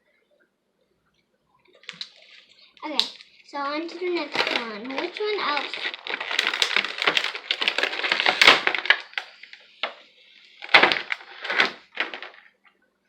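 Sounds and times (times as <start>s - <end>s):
plastic packaging crinkling: 1.8s - 12.7s.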